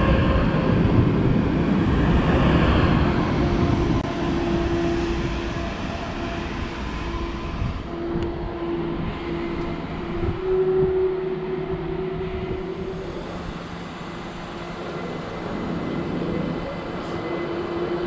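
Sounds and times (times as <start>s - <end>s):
electric train rumble and whine: 0.0s - 18.0s.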